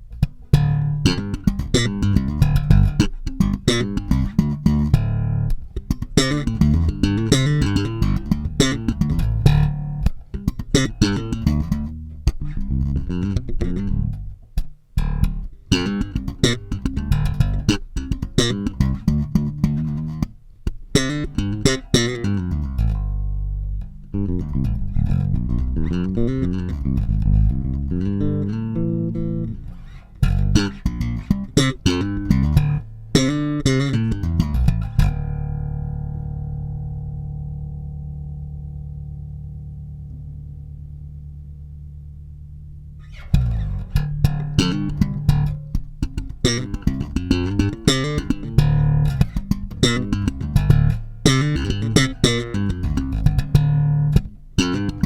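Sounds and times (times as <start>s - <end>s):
electric bass guitar plucked notes: 0.0s - 55.0s.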